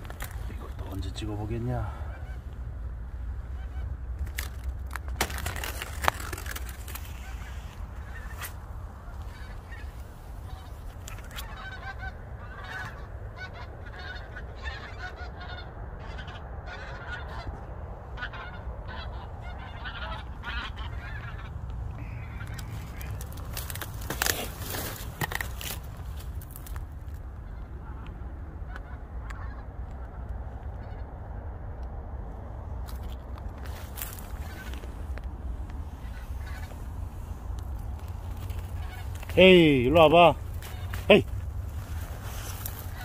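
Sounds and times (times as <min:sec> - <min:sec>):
geese honking: 0:00.0 - 0:31.2, 0:32.9 - 0:43.0.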